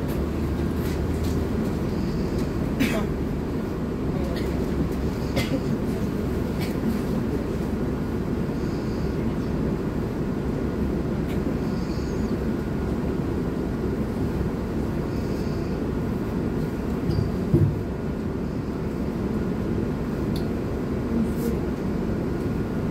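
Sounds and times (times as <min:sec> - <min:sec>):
bus interior rumble: 0:00.0 - 0:22.9.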